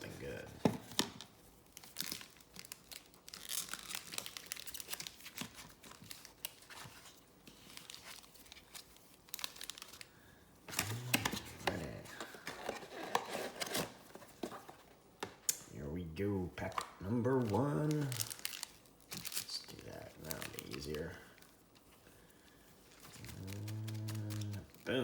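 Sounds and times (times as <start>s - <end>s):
plastic wrapping tearing and crinkling: 0.1s - 14.2s, 16.6s - 25.0s.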